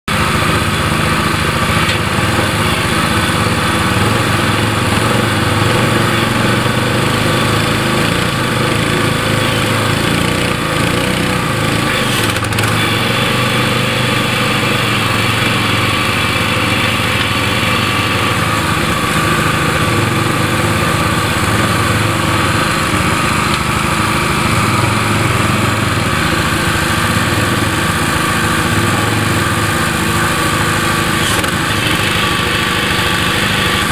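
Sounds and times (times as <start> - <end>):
high whine: 0.1 - 33.9
small gas engine running: 0.1 - 33.9.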